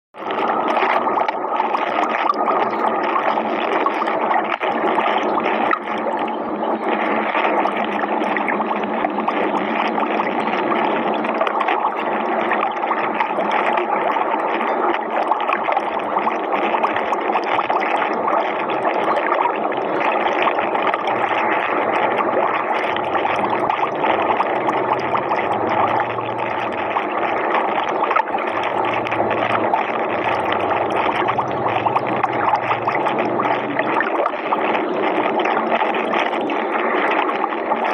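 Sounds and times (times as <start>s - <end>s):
underwater rushing: 0.2s - 37.9s.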